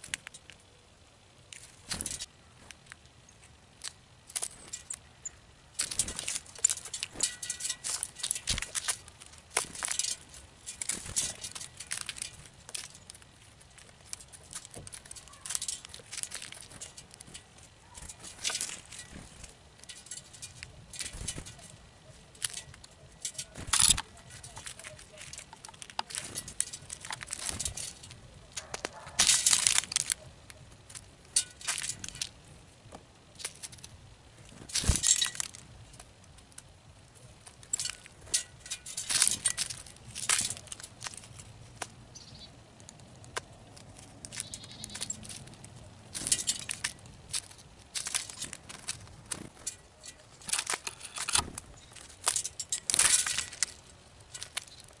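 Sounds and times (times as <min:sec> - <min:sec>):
birds pecking seed on metal tray: 0:00.0 - 0:55.0
birds scrabbling: 0:01.6 - 0:55.0.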